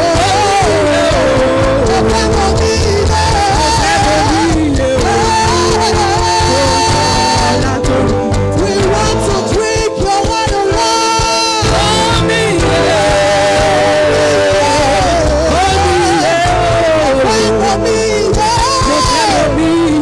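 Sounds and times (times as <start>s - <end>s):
held low chords: 0.0s - 10.0s, 11.6s - 20.0s
person singing: 0.0s - 20.0s.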